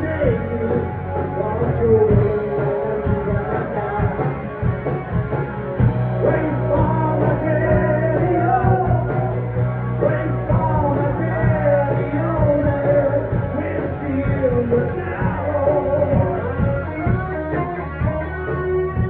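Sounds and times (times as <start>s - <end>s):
man singing into a microphone: 0.0s - 4.6s, 6.2s - 17.2s
bass guitar: 0.0s - 19.0s
drum kit beats: 0.0s - 19.0s
electric guitar: 0.0s - 19.0s.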